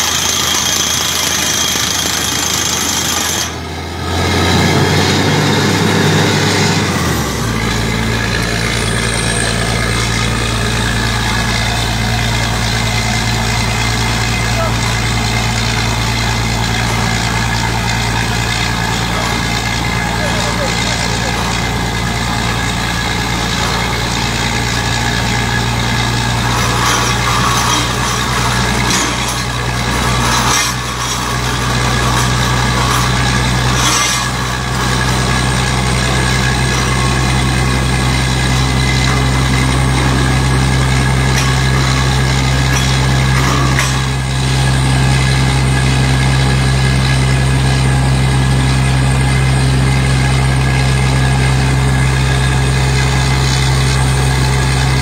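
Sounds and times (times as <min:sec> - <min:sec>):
drilling rig engine drone: 0:00.0 - 0:55.0.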